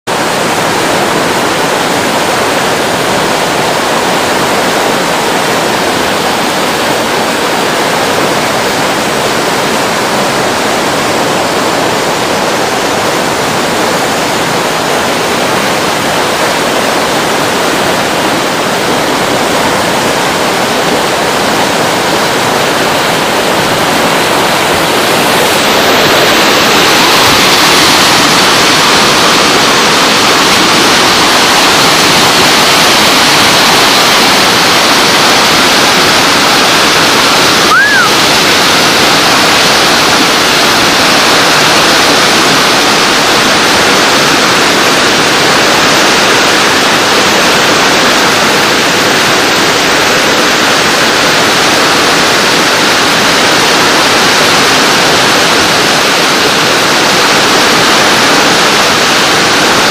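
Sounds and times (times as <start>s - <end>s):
whitewater rapids rushing: 0.0s - 59.9s.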